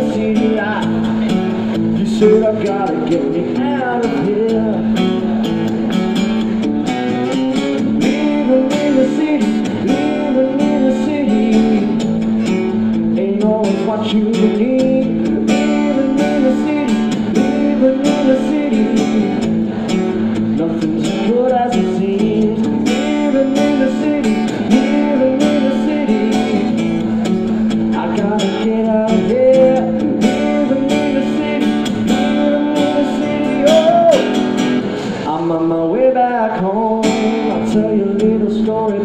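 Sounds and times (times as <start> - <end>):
acoustic guitar strumming blues-rock: 0.0 - 39.0
sliding guitar melody line: 0.0 - 39.0.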